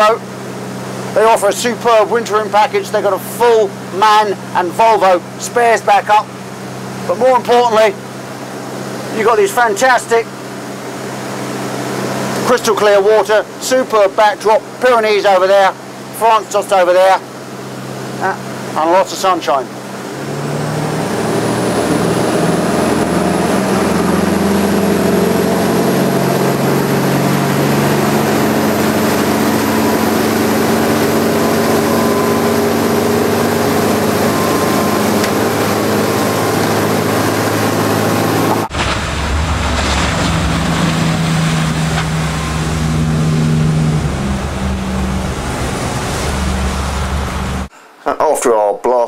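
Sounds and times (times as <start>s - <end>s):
boat engine drone: 0.0s - 47.7s
rushing water: 0.0s - 47.7s
wind: 0.0s - 48.4s.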